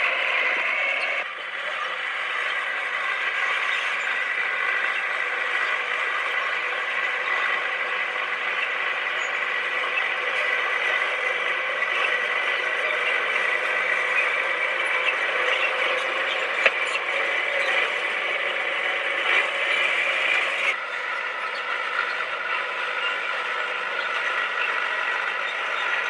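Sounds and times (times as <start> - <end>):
bulldozer engine drone: 0.0 - 26.0.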